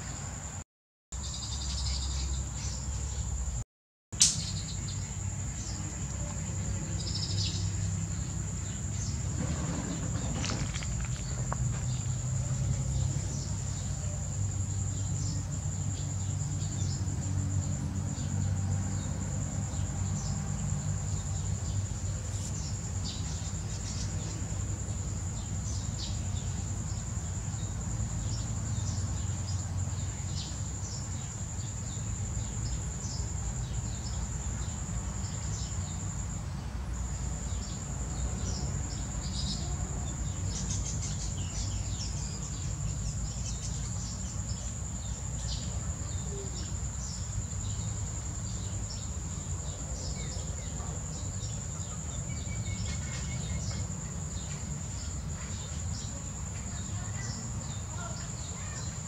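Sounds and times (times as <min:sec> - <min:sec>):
high-pitched insect trill: 0:04.2 - 0:59.0.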